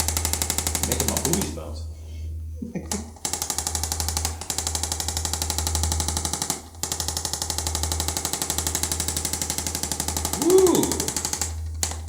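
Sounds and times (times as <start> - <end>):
electric percussion tool tapping: 0.0 - 1.7, 2.9 - 12.0.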